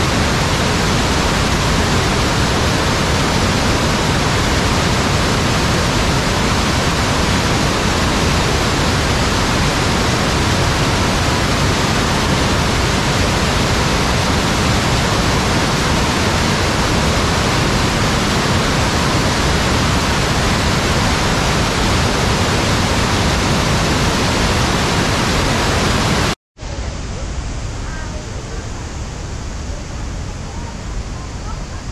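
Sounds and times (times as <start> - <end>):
waterfall rushing: 0.0 - 26.4.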